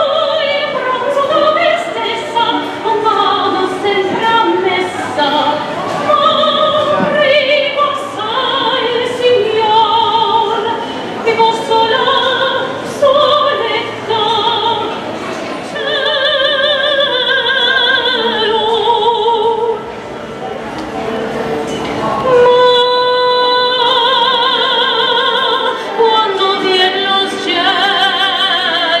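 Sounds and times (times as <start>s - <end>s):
woman singing operatically: 0.0s - 15.0s, 15.7s - 19.8s, 22.2s - 29.0s.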